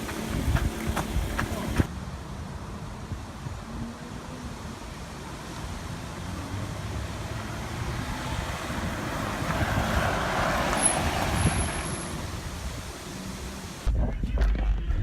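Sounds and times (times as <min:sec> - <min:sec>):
wind and road noise hiss: 0:00.0 - 0:13.9
low road rumble in car: 0:00.0 - 0:15.0.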